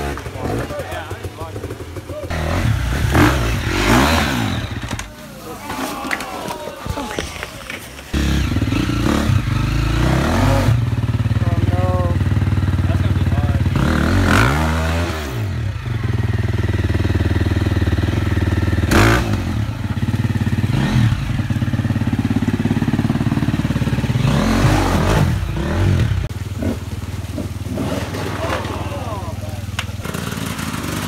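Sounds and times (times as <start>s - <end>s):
dirt bike engine revving: 0.0s - 5.3s, 8.1s - 31.0s.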